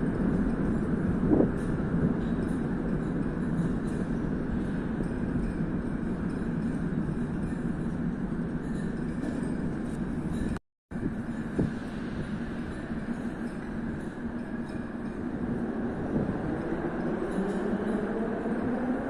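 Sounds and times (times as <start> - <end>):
metro train running: 0.0 - 19.0.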